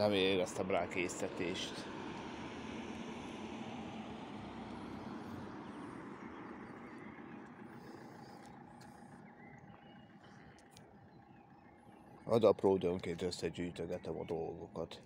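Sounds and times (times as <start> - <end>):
motor vehicle passing: 0.0 - 13.6.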